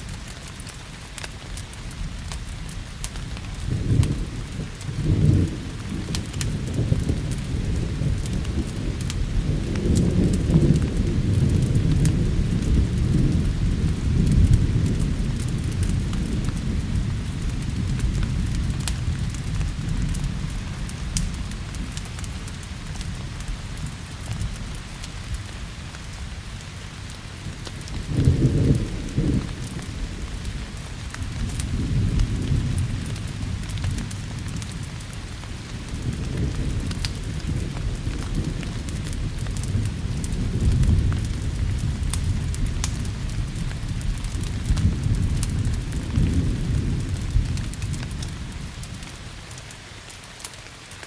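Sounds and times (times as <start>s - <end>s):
steady rain: 0.0s - 51.0s
wood fire crackling: 0.0s - 51.0s
rolling thunder: 3.4s - 25.6s, 27.3s - 49.1s.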